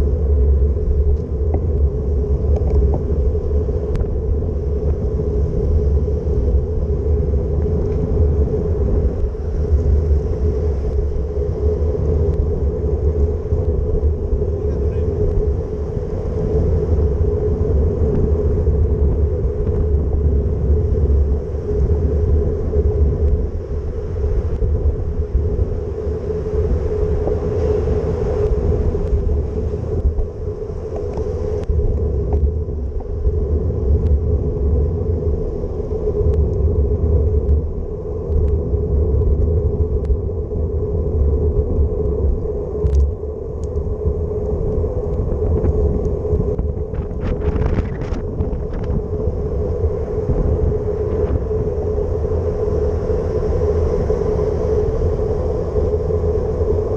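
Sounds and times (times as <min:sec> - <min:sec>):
steady hum: 0:00.0 - 0:56.9
wind buffeting microphone: 0:00.0 - 0:56.9.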